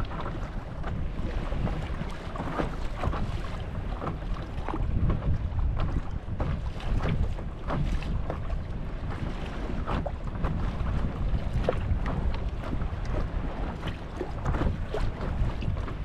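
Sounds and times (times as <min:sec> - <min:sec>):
small waves splashing: 0:00.0 - 0:16.0
wind buffeting microphone: 0:00.0 - 0:16.0.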